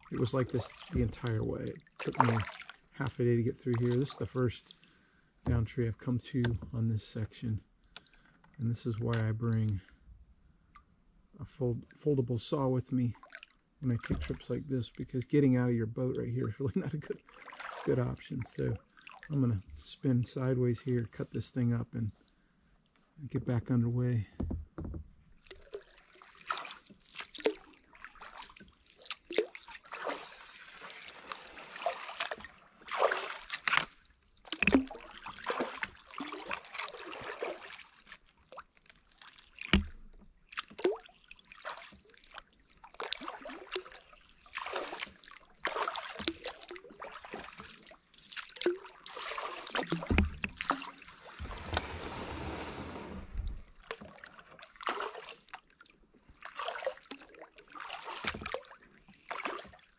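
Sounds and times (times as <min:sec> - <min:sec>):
paddle dipping and water sloshing: 0:00.0 - 0:05.8, 0:06.4 - 0:11.0, 0:13.1 - 0:15.1, 0:16.8 - 0:19.9, 0:24.3 - 0:59.9.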